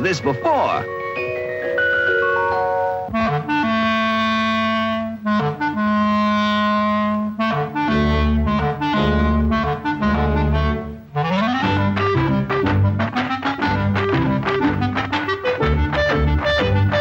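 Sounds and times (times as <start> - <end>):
clarinet solo: 0.0 - 17.0
low bass notes: 3.1 - 17.0.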